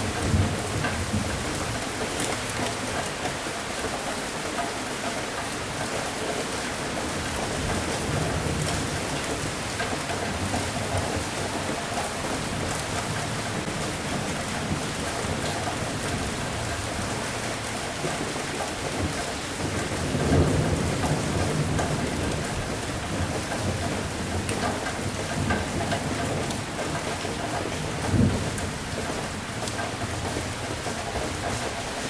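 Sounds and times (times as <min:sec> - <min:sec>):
thunder rumbling: 0:00.0 - 0:03.1, 0:06.8 - 0:32.0
heavy rain: 0:00.0 - 0:32.0.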